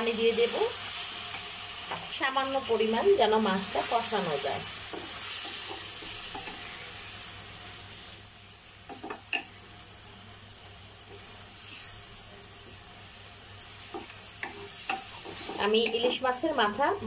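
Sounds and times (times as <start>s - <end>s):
fish sizzling in a pot: 0.0s - 17.0s.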